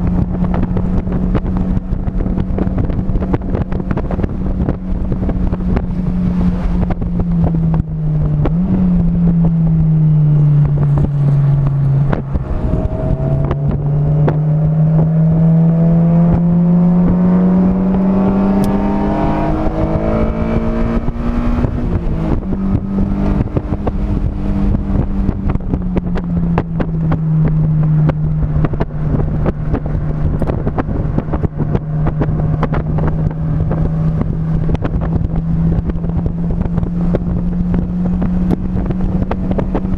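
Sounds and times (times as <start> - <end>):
race car engine: 0.0 - 39.9
wind buffeting microphone: 0.0 - 39.9.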